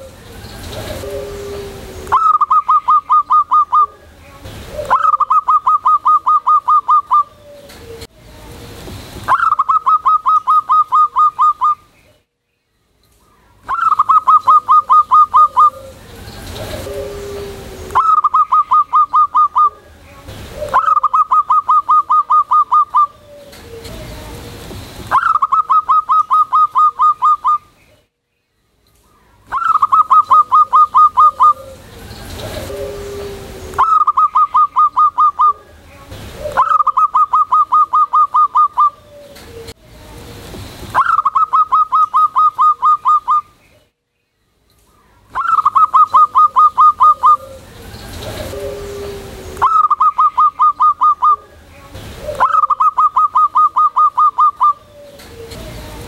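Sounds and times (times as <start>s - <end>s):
dove cooing: 0.0s - 8.1s, 9.3s - 11.8s, 13.7s - 27.7s, 29.5s - 39.8s, 41.0s - 43.5s, 45.3s - 56.0s.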